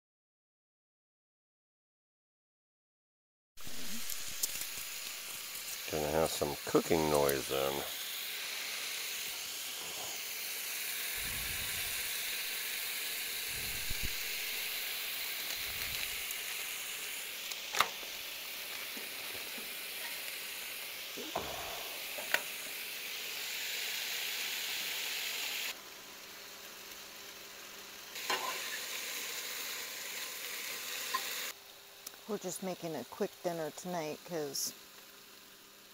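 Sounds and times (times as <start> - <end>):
meat sizzling in a frying pan: 3.6 - 32.6.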